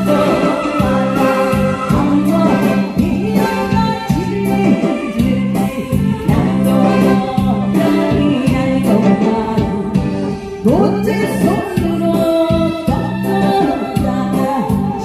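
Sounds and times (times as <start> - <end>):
instrumental backing track: 0.0 - 15.0
person singing folk song: 0.0 - 15.0.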